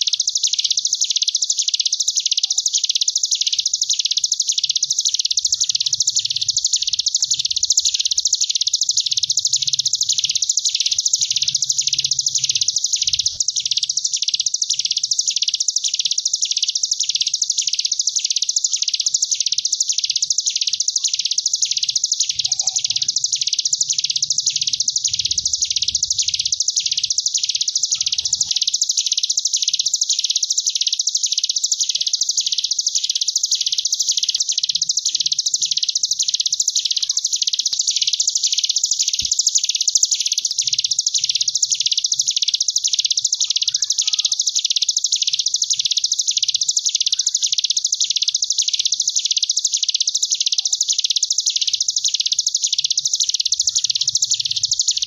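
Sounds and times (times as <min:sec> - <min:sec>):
bird singing high buzzing trill: 0:00.0 - 0:55.0.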